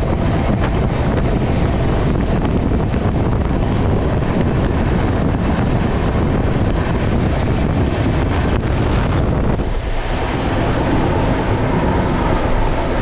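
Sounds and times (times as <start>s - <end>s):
train running on rails: 0.0s - 13.0s
wind buffeting microphone: 0.0s - 13.0s.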